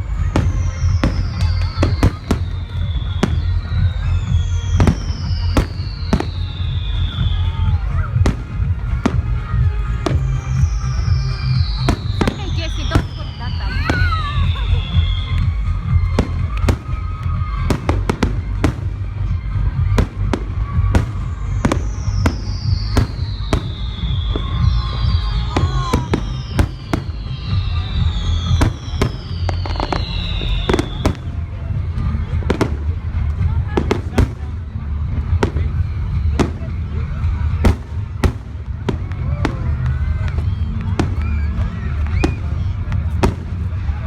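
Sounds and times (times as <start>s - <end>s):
fireworks bangs: 0.0s - 44.0s
fireworks whistles gliding down: 0.0s - 44.0s
low rumble: 0.0s - 44.0s
music: 0.0s - 44.0s.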